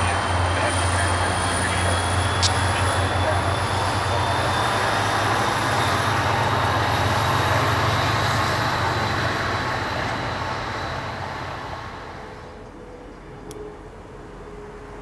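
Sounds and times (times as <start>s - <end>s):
diesel locomotive engine drone: 0.0s - 15.0s
train rumbling: 0.0s - 15.0s.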